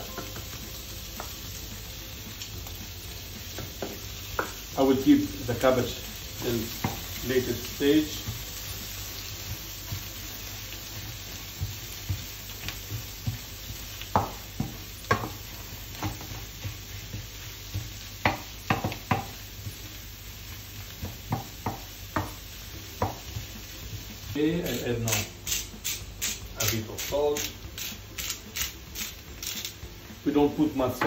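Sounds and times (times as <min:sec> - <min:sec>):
food sizzling in frying pan: 0:00.0 - 0:31.0.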